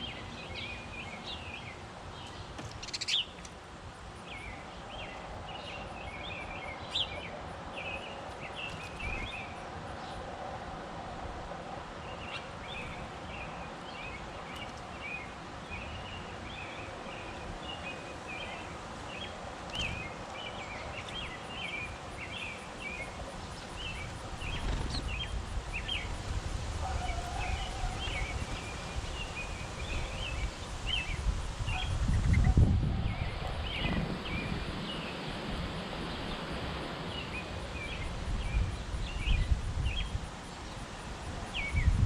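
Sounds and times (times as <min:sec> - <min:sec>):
sparrows chirping: 0:00.0 - 0:03.5, 0:04.1 - 0:10.2, 0:12.0 - 0:35.4, 0:36.1 - 0:42.0.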